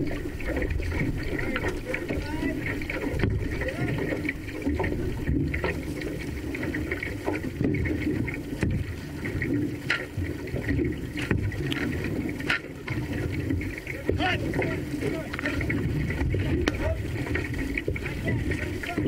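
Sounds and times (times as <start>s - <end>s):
paddles splashing: 0.0s - 19.0s
water rushing along canoe hull: 0.0s - 19.0s.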